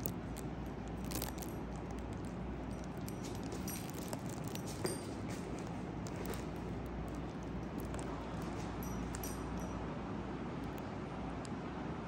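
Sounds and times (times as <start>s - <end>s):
dog claws clicking on floor: 0.0s - 9.7s
collar tags jingling: 0.0s - 9.8s
steady low hum: 0.0s - 12.0s.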